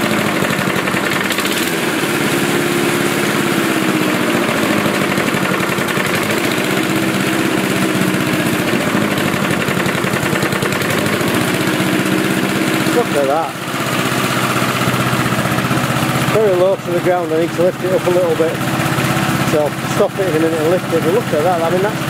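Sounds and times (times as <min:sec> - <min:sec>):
lawnmower engine running: 0:00.0 - 0:22.0.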